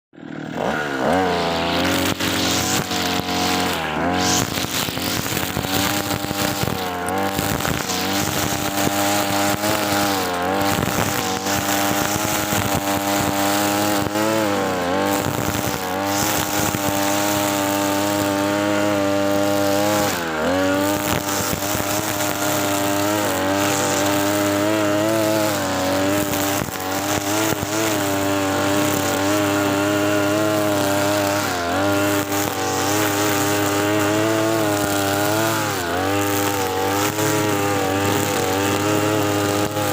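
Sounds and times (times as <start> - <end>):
brush cutter cutting grass: 0.1 - 39.9.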